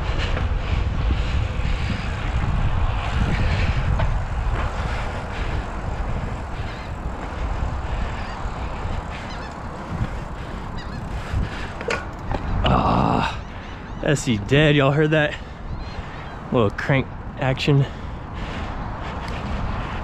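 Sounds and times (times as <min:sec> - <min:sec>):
bike tyre rumble: 0:00.0 - 0:20.0
wind buffeting microphone: 0:00.0 - 0:20.0.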